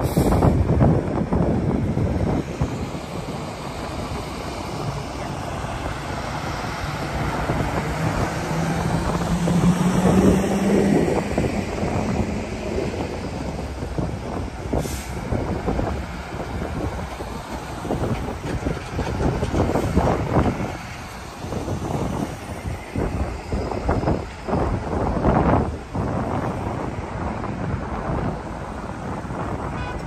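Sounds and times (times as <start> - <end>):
truck engine drone: 0.0 - 29.6
rumble of engines and tyres: 0.0 - 30.0.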